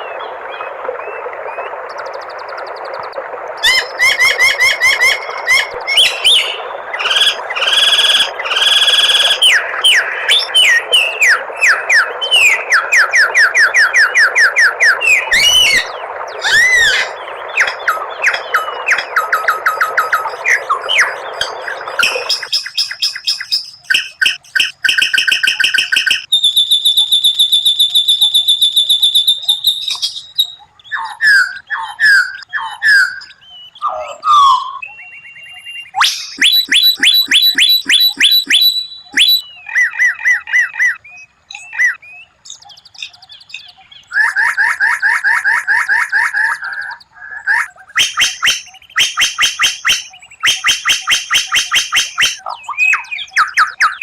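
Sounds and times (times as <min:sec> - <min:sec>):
songbird singing trills and whistles: 0:03.6 - 0:54.0.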